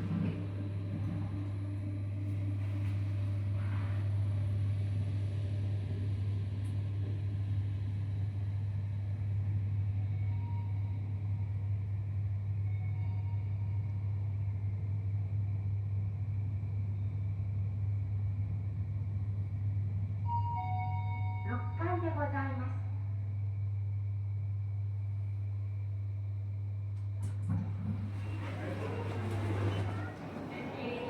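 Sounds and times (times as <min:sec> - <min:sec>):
elevator low hum: 0:00.0 - 0:31.0.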